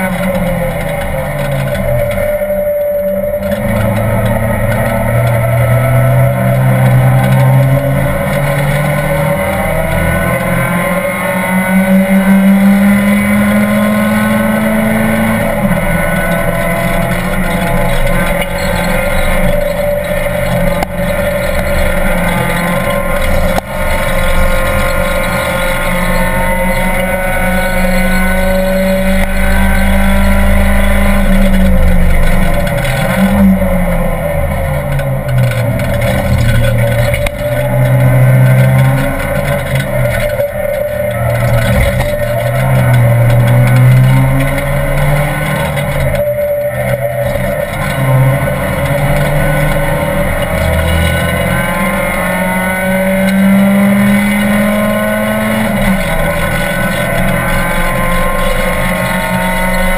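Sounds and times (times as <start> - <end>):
race car engine accelerating: 0.0 - 59.9
road and wind roar: 0.0 - 59.9.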